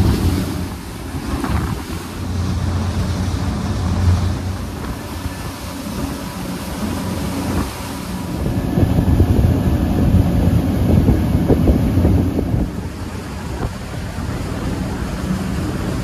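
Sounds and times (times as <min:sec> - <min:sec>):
outboard motors running: 0:00.0 - 0:16.0
water rushing in the wake: 0:00.0 - 0:16.0
wind buffeting the microphone: 0:00.0 - 0:16.0.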